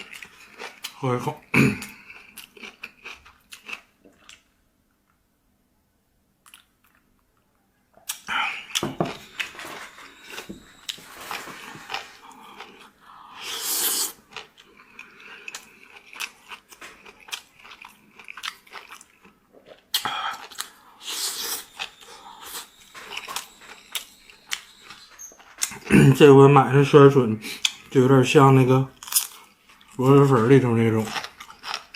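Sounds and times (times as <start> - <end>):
person chewing and crunching food: 0.0 - 5.2, 6.4 - 31.9.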